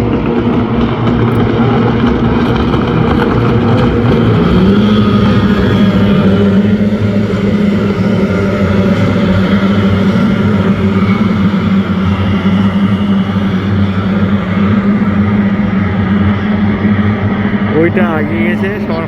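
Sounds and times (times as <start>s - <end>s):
motorboat engines droning: 0.0s - 19.0s.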